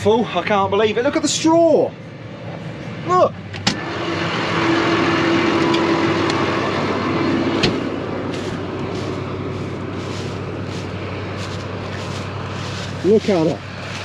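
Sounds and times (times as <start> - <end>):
diesel engine running: 0.0 - 14.0
steady whine: 0.0 - 14.0.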